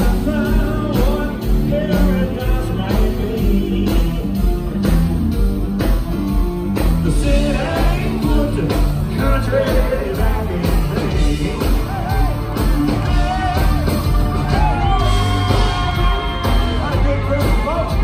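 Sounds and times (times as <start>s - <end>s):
person singing: 0.0s - 4.5s, 7.0s - 18.0s
live band music: 0.0s - 18.0s
steady drum beat: 0.0s - 18.0s.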